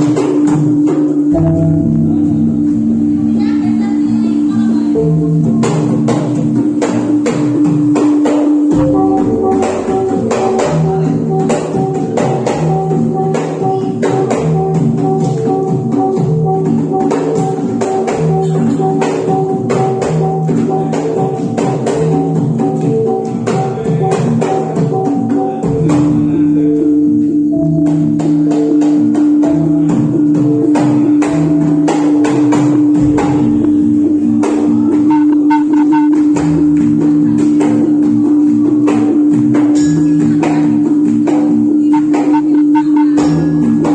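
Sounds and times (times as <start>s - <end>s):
gamelan music: 0.0s - 43.9s.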